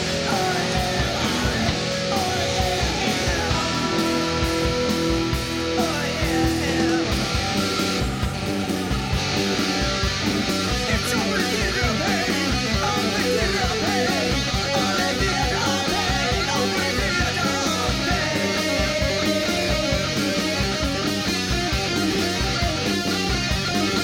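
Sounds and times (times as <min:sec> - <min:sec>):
fast pulsing low end: 0:00.0 - 0:23.7
bass guitar: 0:00.0 - 0:24.0
electric guitar: 0:00.0 - 0:24.0
keyboard: 0:00.0 - 0:24.0.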